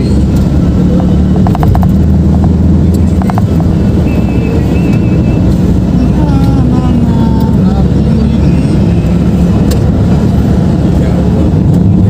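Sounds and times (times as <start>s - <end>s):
motorcycle engine drone: 0.0s - 12.0s
wind rumble on microphone: 0.0s - 12.0s.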